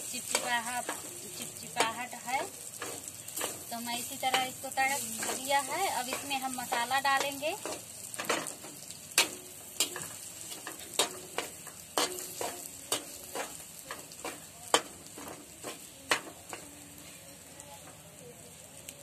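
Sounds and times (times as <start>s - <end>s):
spoon scraping and knocking pan: 0.0s - 16.7s
faint sizzle: 0.0s - 19.0s.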